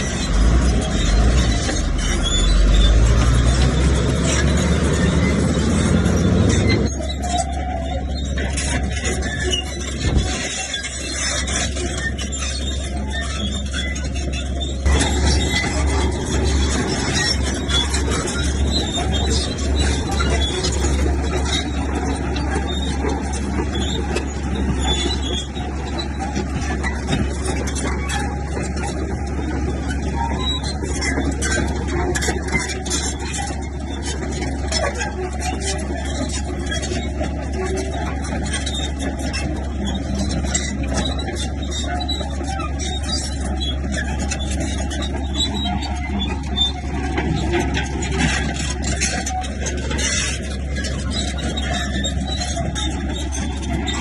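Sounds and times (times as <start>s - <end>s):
bulldozer diesel engine rumbling: 0.0s - 54.0s
short knocks and clatter: 8.2s - 54.0s.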